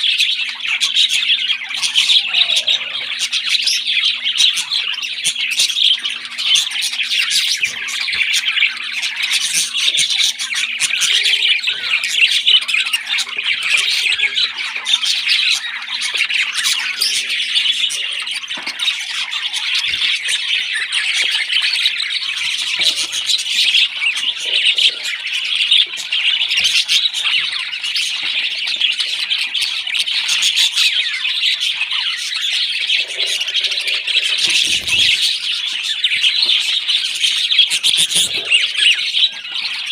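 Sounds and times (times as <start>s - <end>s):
parrot chicks squawking: 0.0s - 39.9s.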